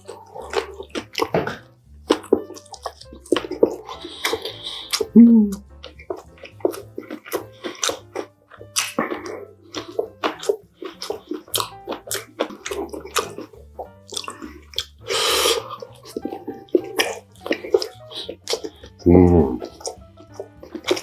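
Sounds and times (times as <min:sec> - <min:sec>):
person chewing: 0:00.0 - 0:21.0
wet mouth smacks and clicks: 0:00.0 - 0:21.0.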